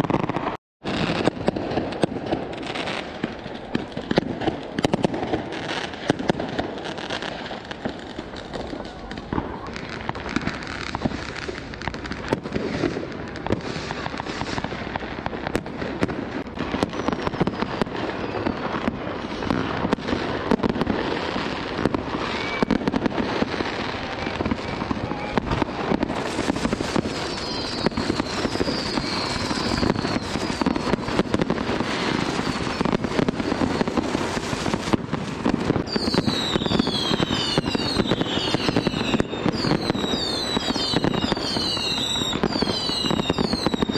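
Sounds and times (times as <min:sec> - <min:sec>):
fireworks crackling and banging: 0:00.0 - 0:43.9
whistling fireworks: 0:00.0 - 0:43.9.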